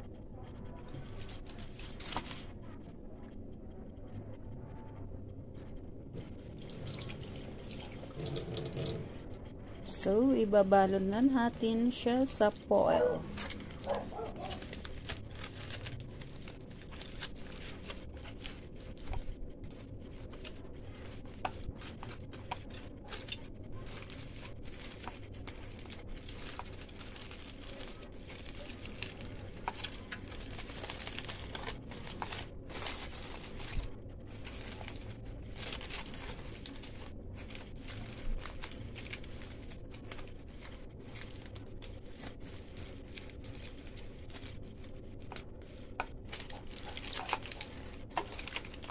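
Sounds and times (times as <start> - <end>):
aluminium foil crinkling: 0.4 - 2.8, 6.2 - 48.9.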